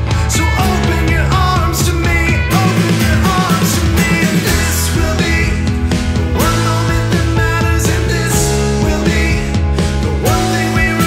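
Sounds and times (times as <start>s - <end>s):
rock band music: 0.0s - 11.0s.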